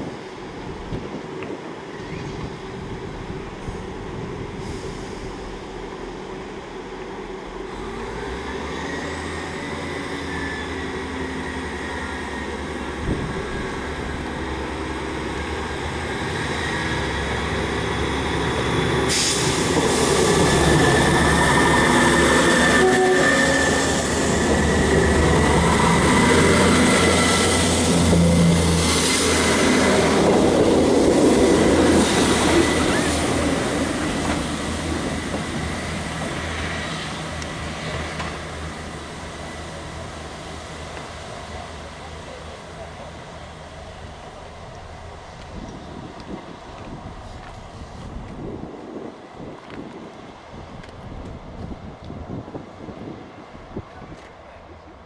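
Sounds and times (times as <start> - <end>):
diesel train engines: 0.0 - 55.0
train wheels on rails: 0.0 - 55.0.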